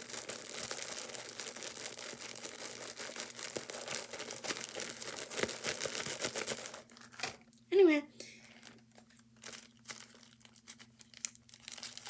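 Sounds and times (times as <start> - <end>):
plastic squeeze toy crinkling: 0.0 - 7.4, 8.4 - 12.0.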